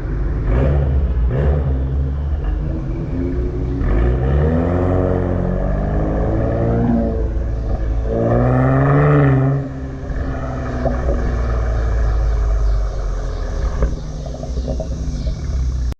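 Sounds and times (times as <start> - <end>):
car exhaust revving: 0.0 - 15.9
exhaust cracks: 0.0 - 15.9.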